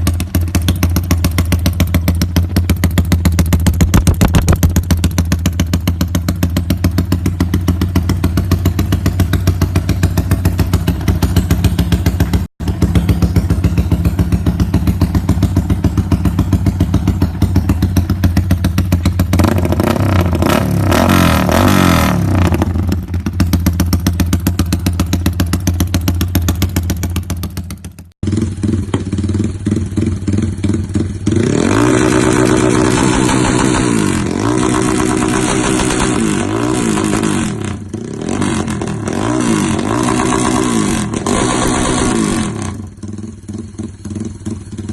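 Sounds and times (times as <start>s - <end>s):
light engine clatter: 0.0s - 20.4s, 23.0s - 37.8s, 39.7s - 44.9s
motorcycle engine idling and revving: 0.0s - 44.9s.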